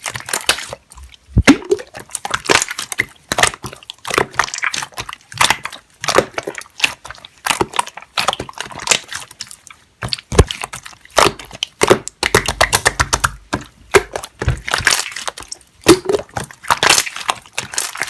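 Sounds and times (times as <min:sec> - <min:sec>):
close-up crunching and crackling: 0:00.0 - 0:18.0.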